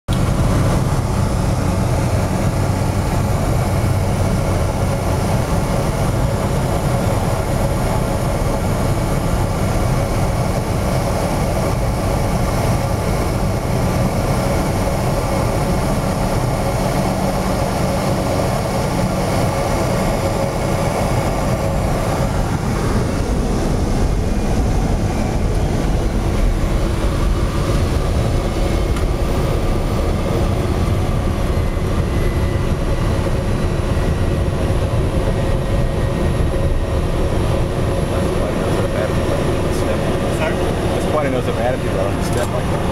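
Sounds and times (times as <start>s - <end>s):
turboprop engine droning: 0.1s - 42.9s.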